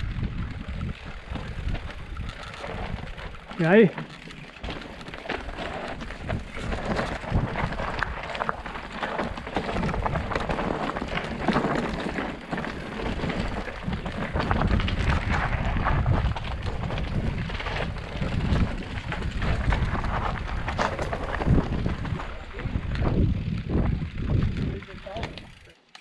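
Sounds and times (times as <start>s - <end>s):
wind buffeting microphone: 0.0s - 3.9s, 4.6s - 25.7s
bike tyres crunching over stones: 0.0s - 26.0s.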